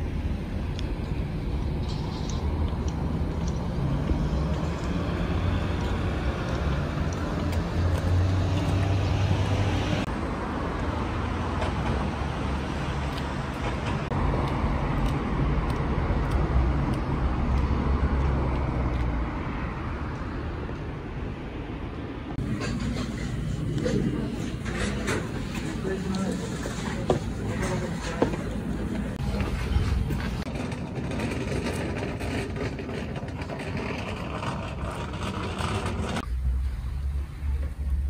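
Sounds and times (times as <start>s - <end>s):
cars rumbling along a road: 0.0s - 38.0s.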